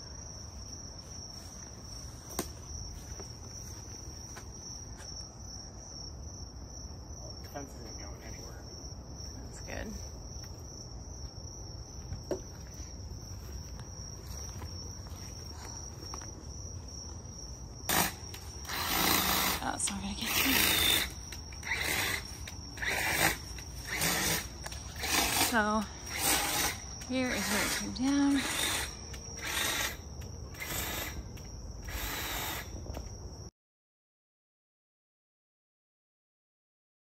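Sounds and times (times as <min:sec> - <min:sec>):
insects trilling: 0:00.0 - 0:33.5.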